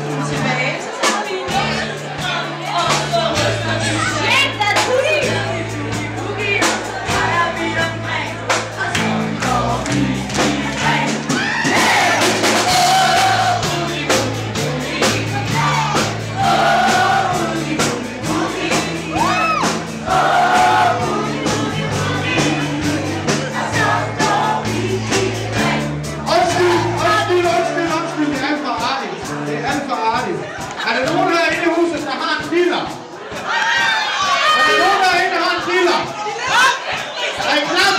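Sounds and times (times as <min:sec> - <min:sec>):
bass line: 0:00.0 - 0:00.8, 0:01.5 - 0:32.0
people singing: 0:00.0 - 0:32.0, 0:32.8 - 0:37.9
live band playing boogie-woogie: 0:00.0 - 0:37.9.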